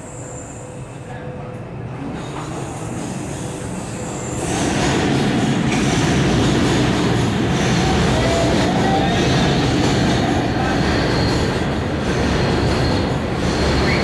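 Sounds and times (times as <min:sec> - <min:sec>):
faint train squeal: 0:00.0 - 0:05.0, 0:07.8 - 0:14.0
subway train rumble: 0:00.0 - 0:14.0.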